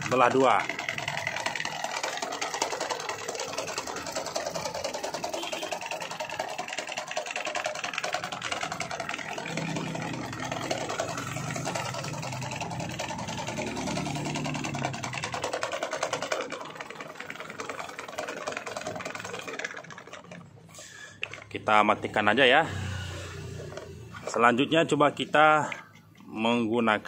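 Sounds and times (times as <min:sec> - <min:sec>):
electric fan rattling and humming: 0:00.0 - 0:27.0.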